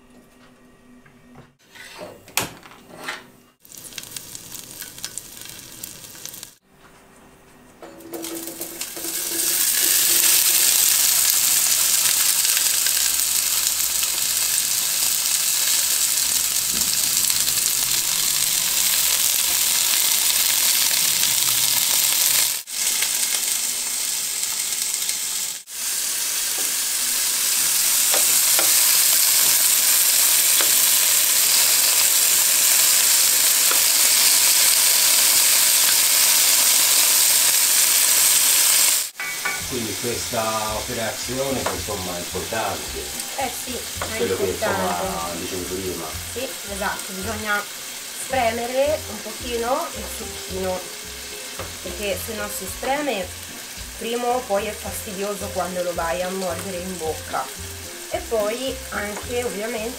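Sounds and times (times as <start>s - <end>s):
tomatoes sizzling in oil: 3.6s - 6.6s, 8.0s - 59.9s.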